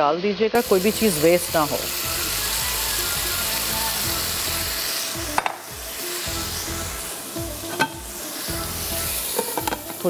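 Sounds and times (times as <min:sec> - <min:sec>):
chicken sizzling in a wok: 0:00.6 - 0:10.0.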